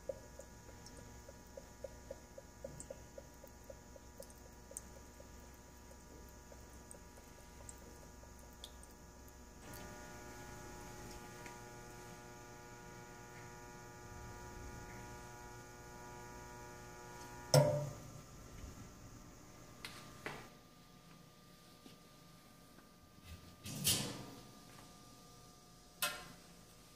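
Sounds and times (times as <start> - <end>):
water supply electrical hum: 0.0 - 26.9.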